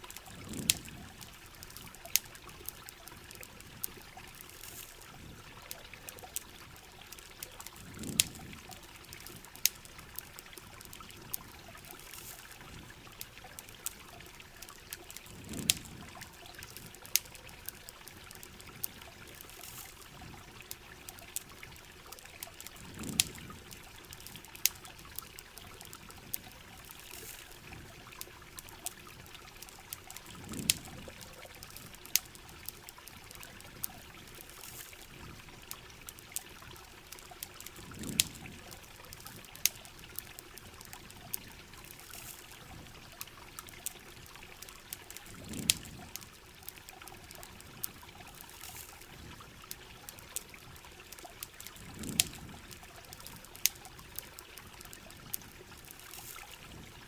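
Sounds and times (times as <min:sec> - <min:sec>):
campfire crackling and popping: 0:00.0 - 0:57.0
flowing river water: 0:00.0 - 0:57.0.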